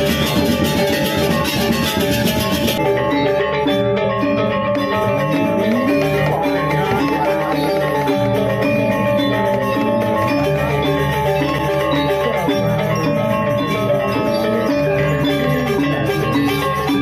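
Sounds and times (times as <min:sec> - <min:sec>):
drums: 0:00.0 - 0:17.0
metallophones ringing: 0:00.0 - 0:17.0.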